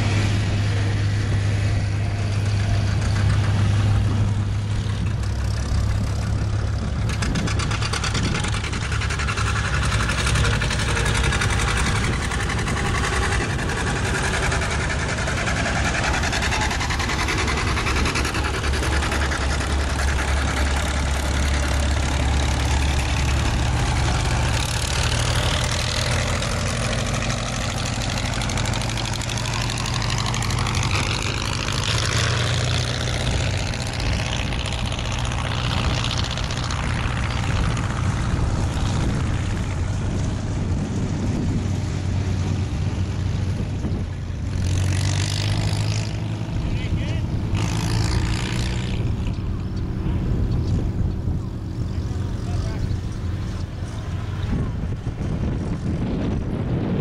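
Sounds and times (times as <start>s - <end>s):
tractor engines running: 0.0s - 57.0s.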